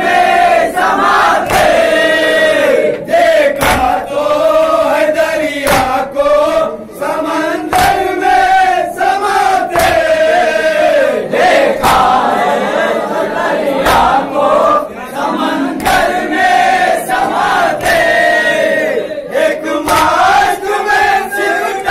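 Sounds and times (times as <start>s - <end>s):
men chanting in unison: 0.0s - 21.9s.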